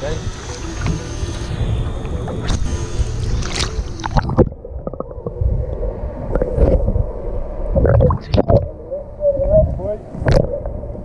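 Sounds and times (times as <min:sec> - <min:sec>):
steady hum: 0:00.0 - 0:11.0
underwater gurgling: 0:00.0 - 0:11.0
wind and water noise: 0:00.0 - 0:11.0.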